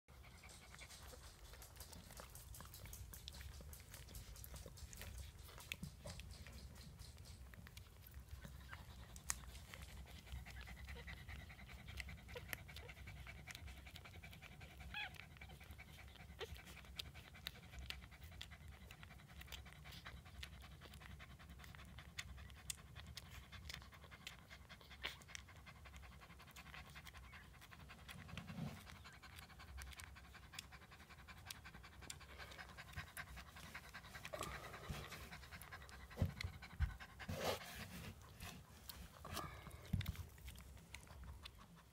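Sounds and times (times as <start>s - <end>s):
dog panting: 0.1s - 41.9s
puppies suckling wet clicks: 0.1s - 41.9s.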